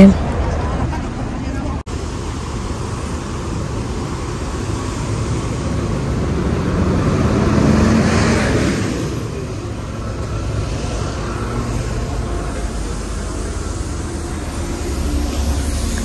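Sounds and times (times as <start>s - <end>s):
bus engines idling: 0.0s - 16.0s
street traffic: 0.0s - 16.0s.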